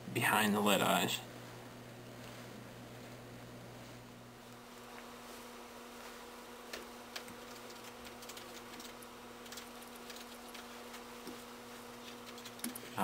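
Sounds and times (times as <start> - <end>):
steady low hum: 0.0 - 13.0
faint clicks and rustles of hands: 1.3 - 13.0.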